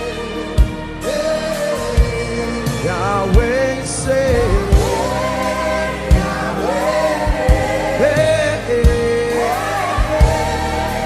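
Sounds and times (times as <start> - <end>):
band playing: 0.0 - 11.0
voices singing long notes: 0.0 - 11.0.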